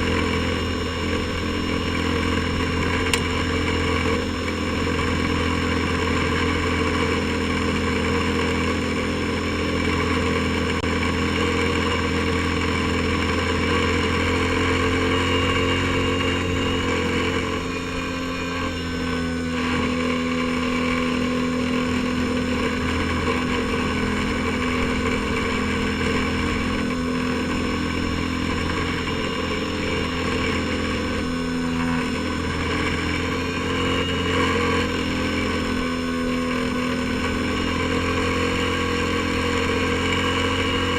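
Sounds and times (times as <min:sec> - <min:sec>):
airboat engine and propeller: 0:00.0 - 0:40.9.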